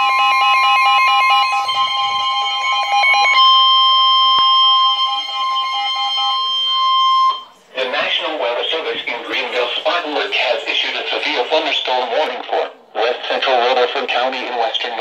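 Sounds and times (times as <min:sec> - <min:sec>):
steady shrill alarm tone: 0:00.0 - 0:12.2.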